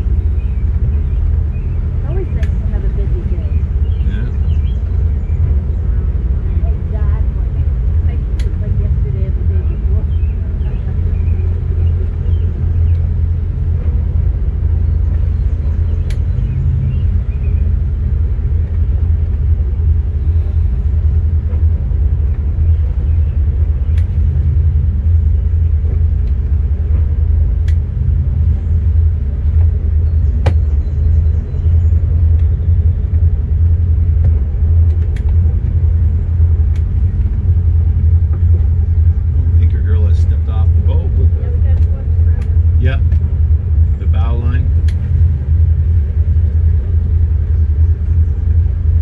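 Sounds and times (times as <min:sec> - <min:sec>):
boat engine rumbling: 0:00.0 - 0:49.0.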